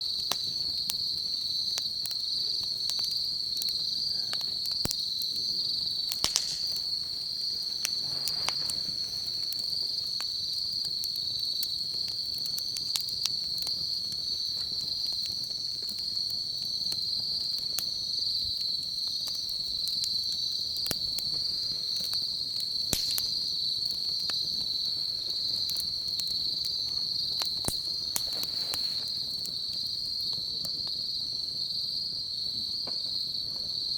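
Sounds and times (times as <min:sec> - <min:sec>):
insects chirring: 0:00.0 - 0:33.9
wood fire crackling: 0:00.0 - 0:33.9.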